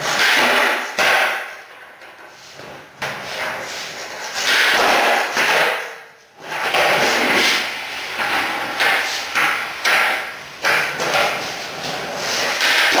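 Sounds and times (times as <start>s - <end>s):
skateboard popping and landing: 0.0s - 13.0s
skateboard wheels rolling on concrete: 0.0s - 13.0s.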